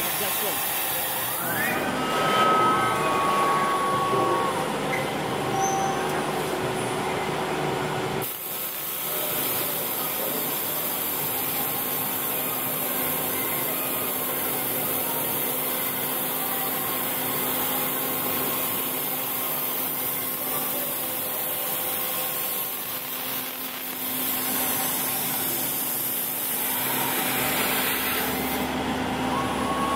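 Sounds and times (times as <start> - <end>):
laser cutter hiss: 0.0 - 4.6, 8.2 - 28.8.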